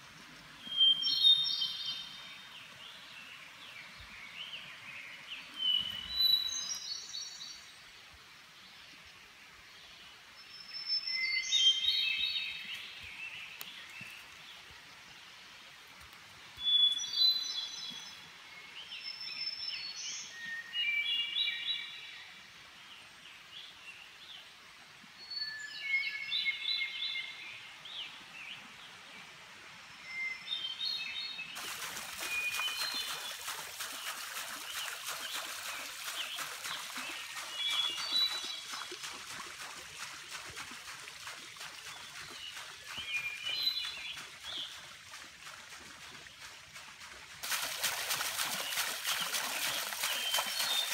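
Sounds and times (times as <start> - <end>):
songbirds singing: 0.0 - 15.2, 16.4 - 22.3, 29.9 - 50.9.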